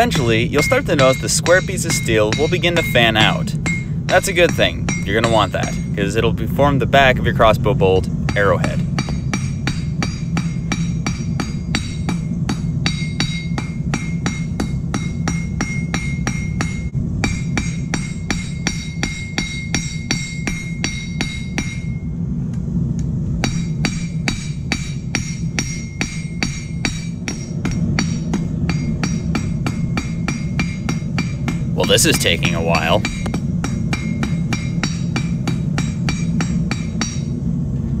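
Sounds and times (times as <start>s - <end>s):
hammer striking hot steel: 0.0s - 22.1s, 23.4s - 37.4s
rail anvil ringing: 0.0s - 22.2s, 23.4s - 37.5s
steady low hum: 0.0s - 38.0s.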